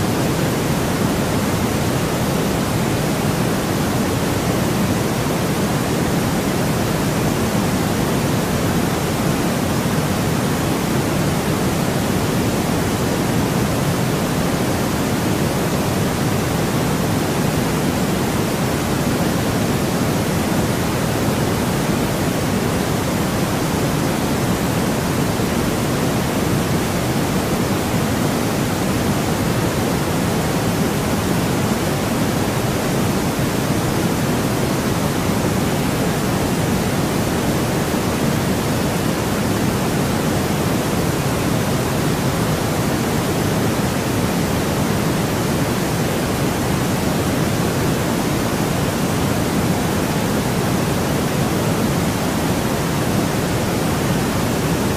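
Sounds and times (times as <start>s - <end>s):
low white noise hiss: 0.0s - 54.9s.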